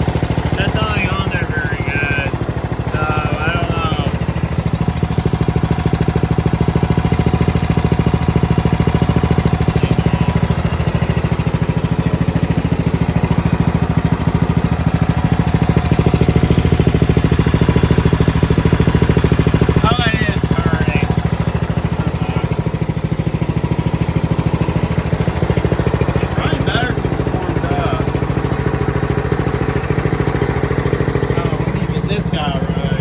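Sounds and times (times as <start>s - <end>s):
small petrol engine running: 0.0s - 33.0s.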